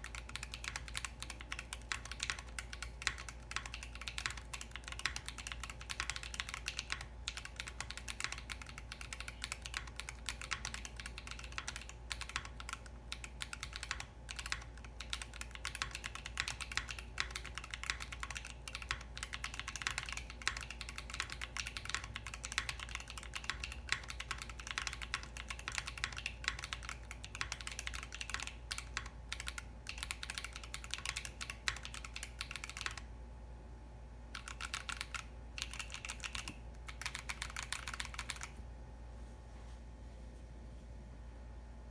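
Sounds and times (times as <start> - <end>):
typing on mechanical keyboard: 0.0 - 33.1, 34.3 - 38.6.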